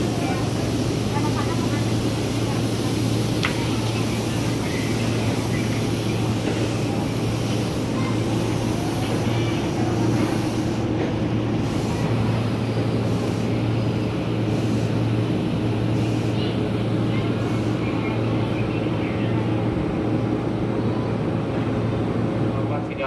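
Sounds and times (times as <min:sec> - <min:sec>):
electric train humming: 0:00.0 - 0:22.8
faint voices: 0:00.0 - 0:23.0.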